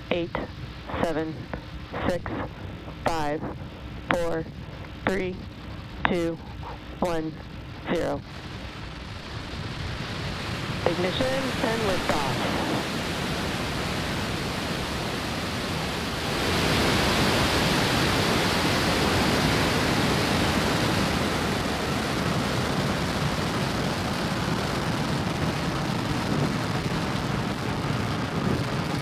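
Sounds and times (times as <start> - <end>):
rocket engine rumble: 0.0 - 29.0.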